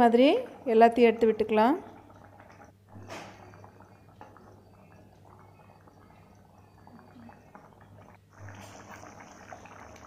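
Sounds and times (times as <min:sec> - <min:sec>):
gravy bubbling in a pan: 0:00.0 - 0:10.0.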